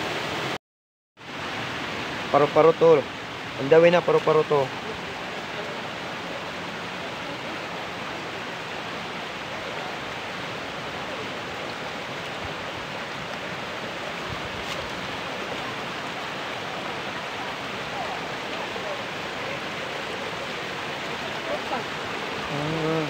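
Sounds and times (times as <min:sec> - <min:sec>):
stream water over rocks: 0:00.0 - 0:00.6, 0:01.2 - 0:23.0.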